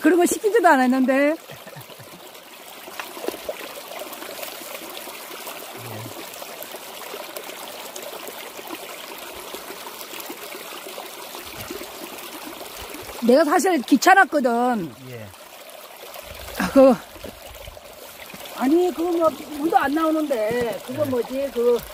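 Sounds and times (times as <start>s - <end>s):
stream trickling over rocks: 0.0s - 21.9s
water splashes and drips: 0.0s - 21.9s.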